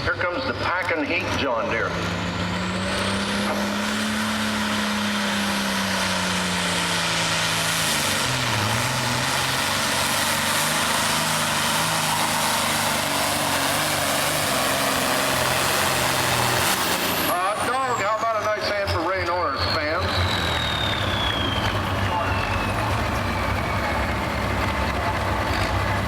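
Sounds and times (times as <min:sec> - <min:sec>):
tractor engine at high revs: 0:00.0 - 0:26.0.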